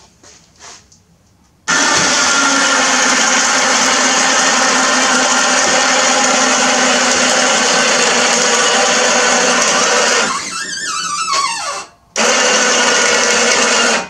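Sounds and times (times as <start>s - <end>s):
electric winch motor running: 1.7s - 14.0s.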